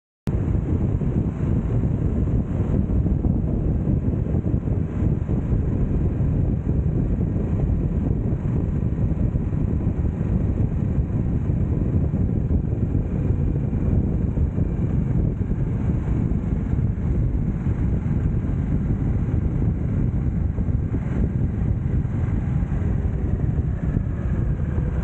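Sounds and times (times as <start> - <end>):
motorcycle engine cruising: 0.3 - 25.0
wind noise on microphone: 0.3 - 25.0.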